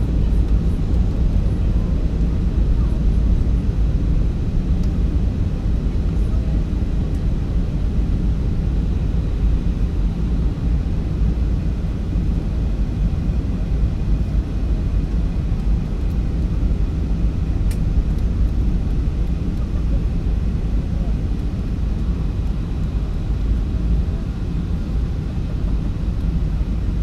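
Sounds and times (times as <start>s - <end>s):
jet airliner cabin rumble: 0.0s - 27.0s.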